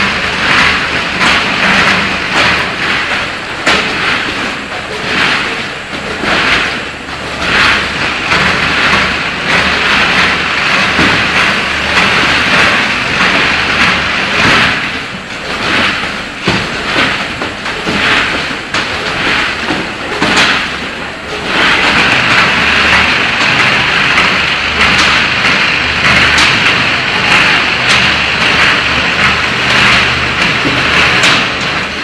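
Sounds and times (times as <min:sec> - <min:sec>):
machine hissing and clattering: 0:00.0 - 0:32.0
packing machine mechanical din: 0:00.0 - 0:32.0.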